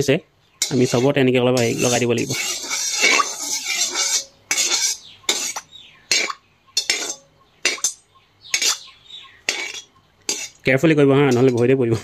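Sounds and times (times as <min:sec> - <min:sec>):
metal spoon scraping a pan: 0:00.6 - 0:12.0.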